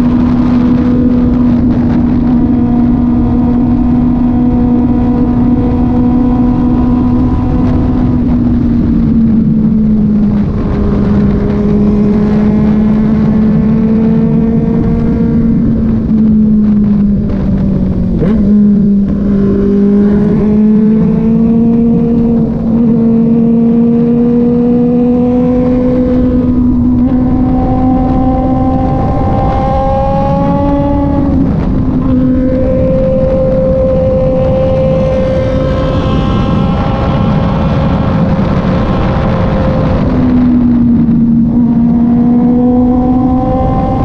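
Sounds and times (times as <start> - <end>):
motorcycle engine cruising: 0.0 - 44.0.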